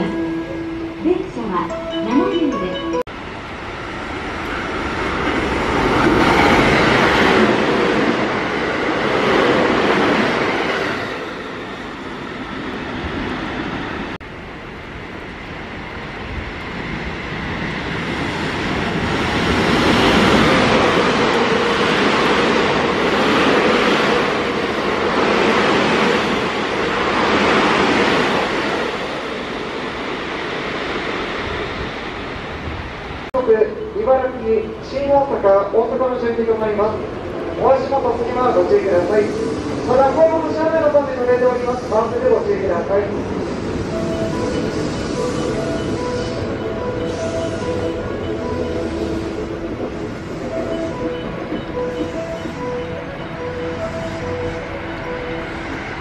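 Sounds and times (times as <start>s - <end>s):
train wheels rushing on rail: 3.4s - 33.3s, 36.8s - 56.0s.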